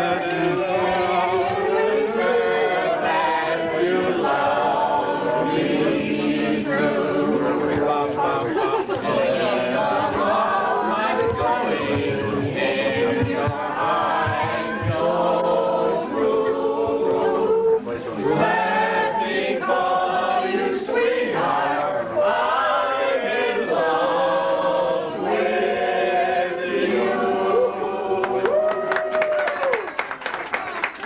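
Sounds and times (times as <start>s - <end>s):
group singing unaccompanied: 0.0s - 28.6s.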